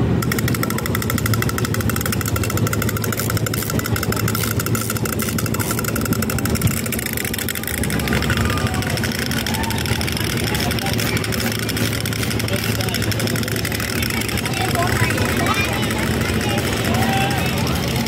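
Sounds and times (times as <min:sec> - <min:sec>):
steady low hum: 0:00.0 - 0:18.0
clockwork toys clicking: 0:00.2 - 0:18.0.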